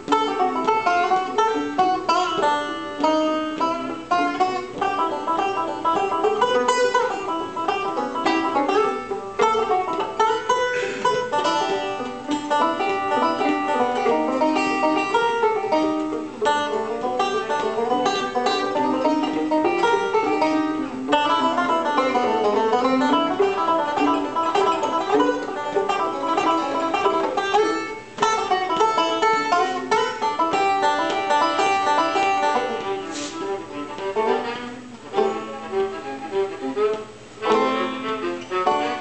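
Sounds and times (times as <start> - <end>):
banjo picking: 0.0 - 39.0
fiddle bowed: 0.0 - 39.0.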